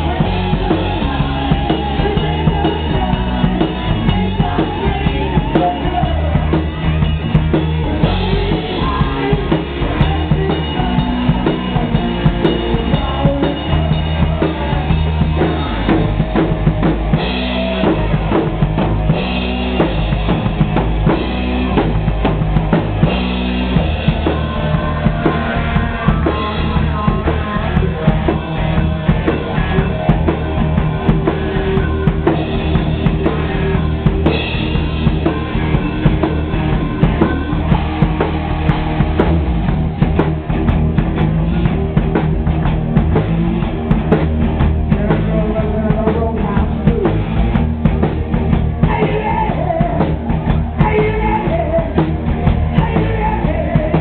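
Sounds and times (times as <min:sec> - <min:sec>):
drum kit beat: 0:00.0 - 0:54.0
electric guitar: 0:00.0 - 0:54.0
rock band playing: 0:00.0 - 0:54.0.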